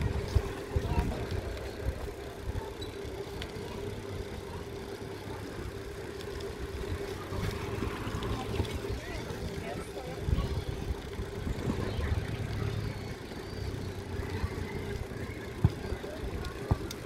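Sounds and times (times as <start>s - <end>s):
road and air rumble: 0.0s - 17.0s.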